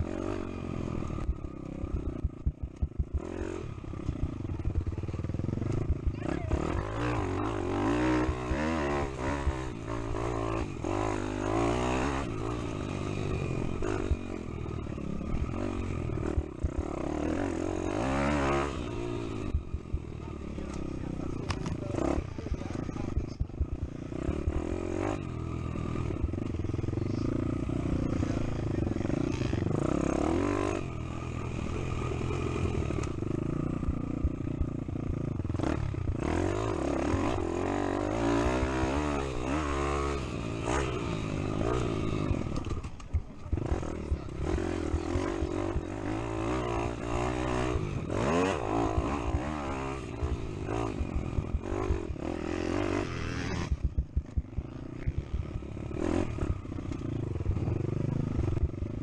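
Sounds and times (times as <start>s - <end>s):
pit bike engine revving: 0.0s - 59.0s.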